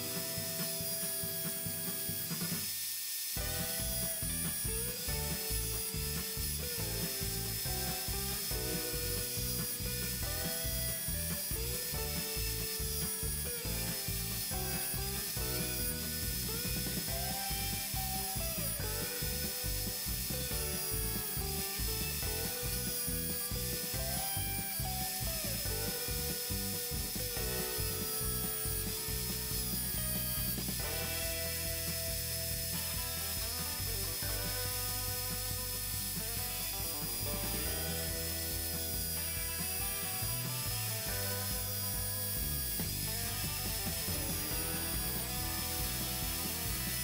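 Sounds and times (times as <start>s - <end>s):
belt sander running: 0.0s - 47.0s.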